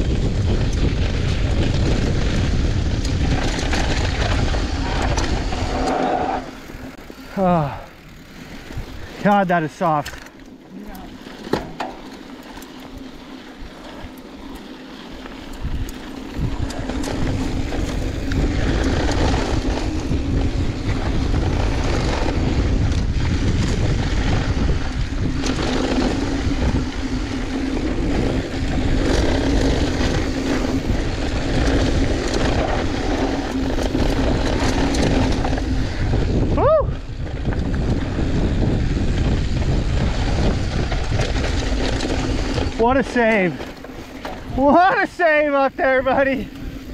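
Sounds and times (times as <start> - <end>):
wind on microphone: 0.0 - 9.2, 15.4 - 45.0
bike tyres rolling over dirt: 0.0 - 46.9
gravel ticks: 0.0 - 46.9.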